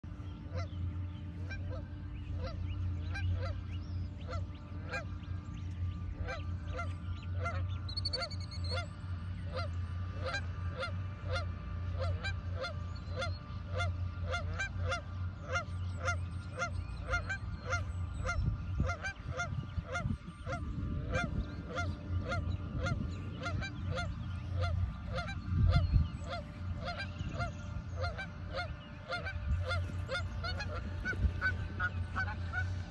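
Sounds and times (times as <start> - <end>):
geese honking: 0.1 - 32.9.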